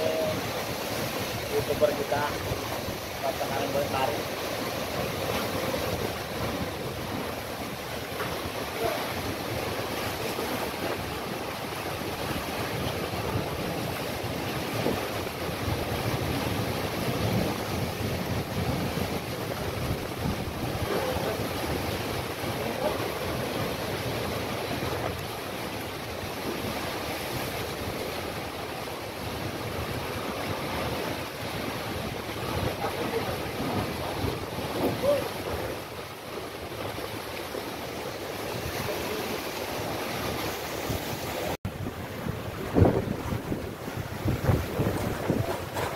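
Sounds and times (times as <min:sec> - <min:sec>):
waves washing against quay: 0:00.0 - 0:45.9
wind on microphone: 0:00.0 - 0:45.9.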